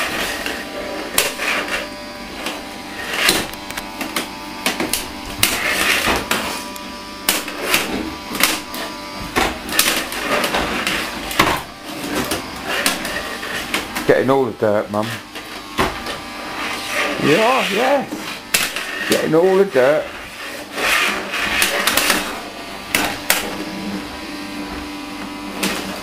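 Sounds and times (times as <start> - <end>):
toy vacuum motor hum: 0.0 - 24.0.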